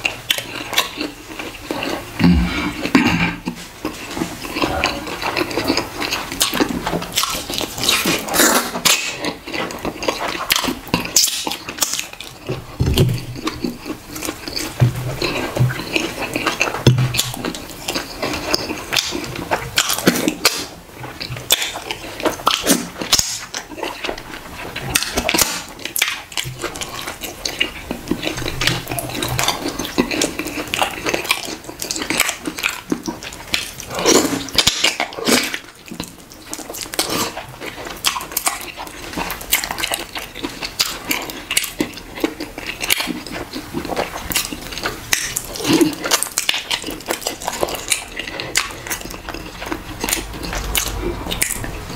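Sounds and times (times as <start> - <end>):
wet chewing and lip-smacking: 0.0 - 51.9.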